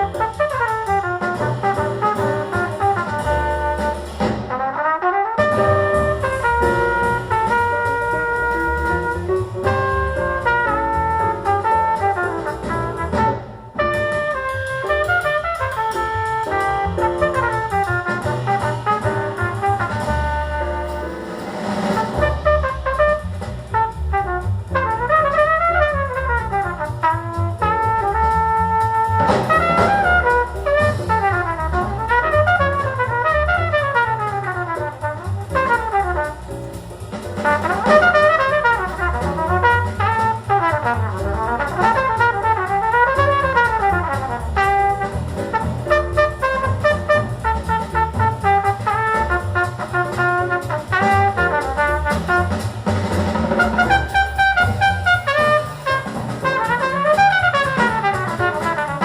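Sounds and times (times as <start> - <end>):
trumpet solo: 0.0 - 36.6, 37.4 - 52.8, 53.4 - 59.0
bass: 0.0 - 59.0
drums: 0.0 - 59.0.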